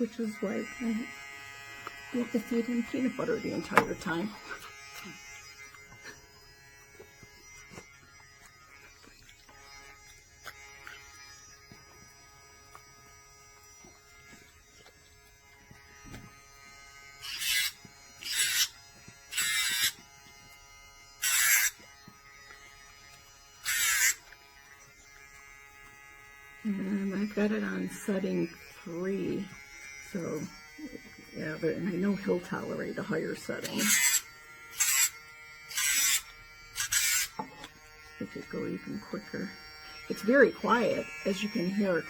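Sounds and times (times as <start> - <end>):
harsh grinding rasps: 0.0 - 12.0, 14.2 - 20.5, 21.1 - 42.0
nail grinder motor whine: 0.0 - 42.0.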